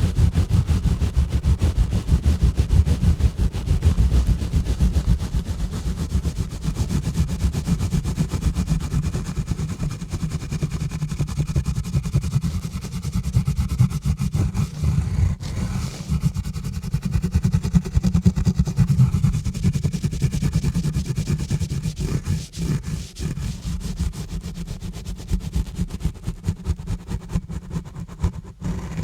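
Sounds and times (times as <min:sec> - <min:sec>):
gloves scrubbing on microphone: 0:00.0 - 0:17.2, 0:18.8 - 0:29.0.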